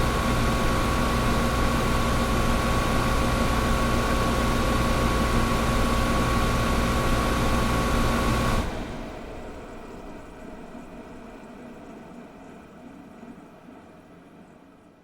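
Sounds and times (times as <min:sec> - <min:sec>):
air conditioner rush and hum: 0:00.0 - 0:15.0.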